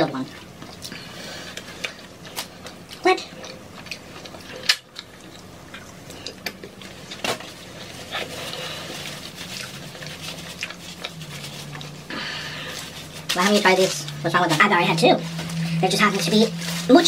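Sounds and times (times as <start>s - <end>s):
chewing close to microphone: 0.2s - 14.2s.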